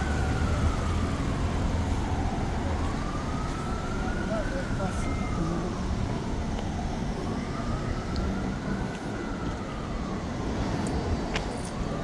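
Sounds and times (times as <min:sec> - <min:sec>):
city street traffic rumble: 0:00.0 - 0:12.0
emergency siren wailing: 0:00.0 - 0:12.0.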